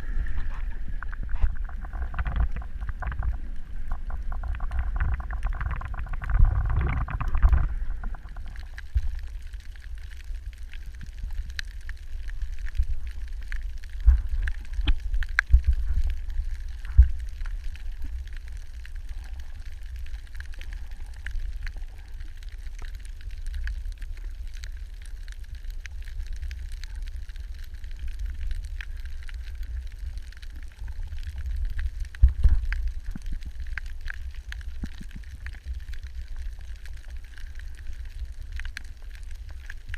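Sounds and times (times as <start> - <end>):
underwater water rumble: 0.0 - 39.9.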